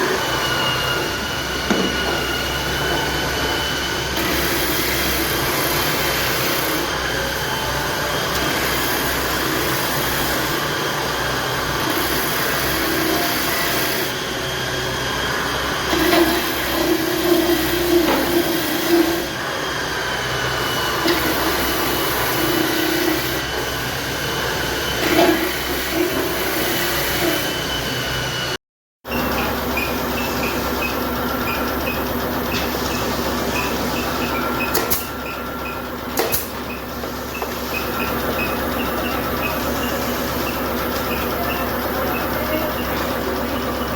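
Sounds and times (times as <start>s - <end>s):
power tool cutting wood: 0.0s - 43.9s.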